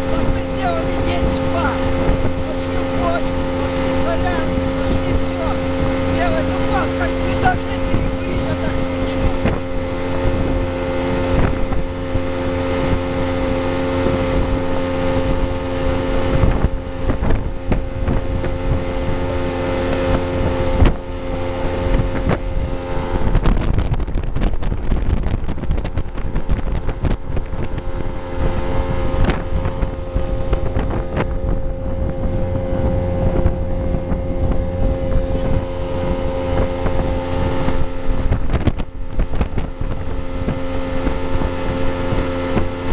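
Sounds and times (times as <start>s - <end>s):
motorboat engine humming: 0.0s - 42.9s
wind on microphone: 0.0s - 42.9s.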